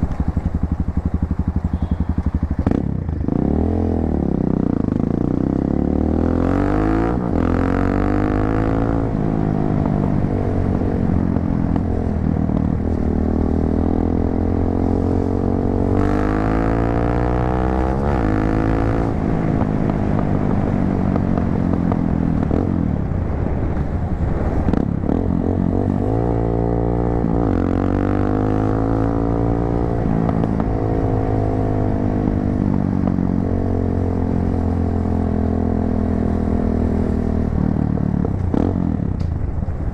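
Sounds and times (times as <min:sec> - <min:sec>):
motorcycle exhaust accelerating: 0:00.0 - 0:39.9.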